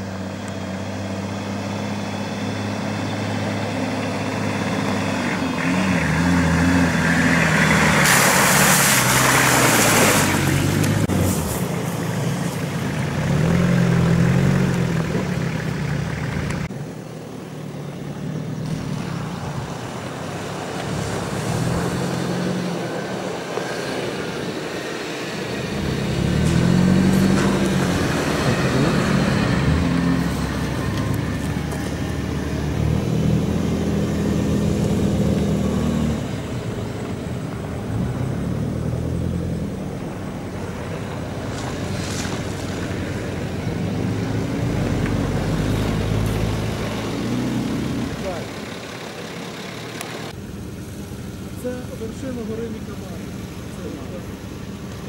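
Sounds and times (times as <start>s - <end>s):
off-road vehicle engines revving: 0.0s - 55.0s.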